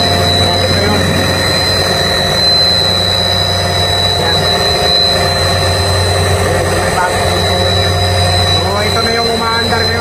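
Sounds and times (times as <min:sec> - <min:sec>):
compressor hum: 0:00.0 - 0:10.0
thin high whine: 0:00.0 - 0:10.0.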